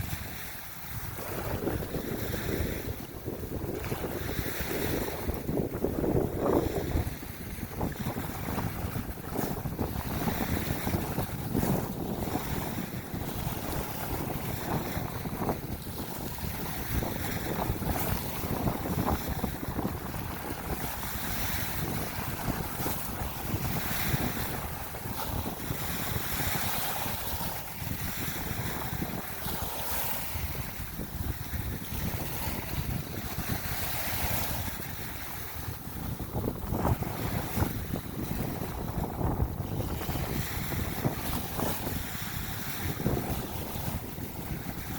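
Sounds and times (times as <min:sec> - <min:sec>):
rushing water: 0:00.0 - 0:44.9
wind buffeting microphone: 0:00.0 - 0:44.9.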